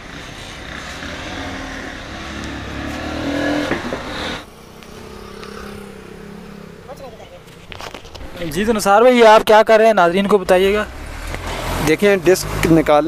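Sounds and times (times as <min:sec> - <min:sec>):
vehicle engine running: 0:00.0 - 0:13.0
quiet engine hum: 0:01.8 - 0:13.0.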